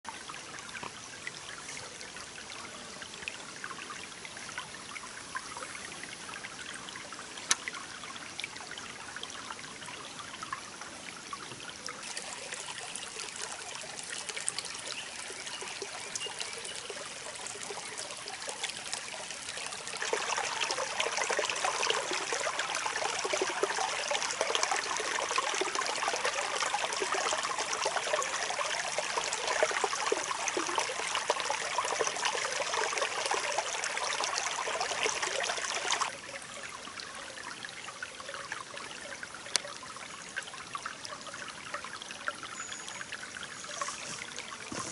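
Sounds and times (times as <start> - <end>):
stream trickling: 0.0 - 44.9.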